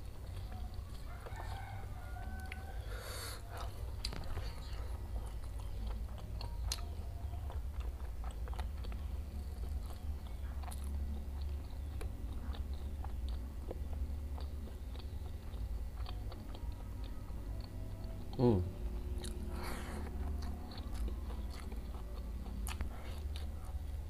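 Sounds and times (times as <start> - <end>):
steady low hum: 0.0 - 24.0
wet chewing: 0.0 - 24.0.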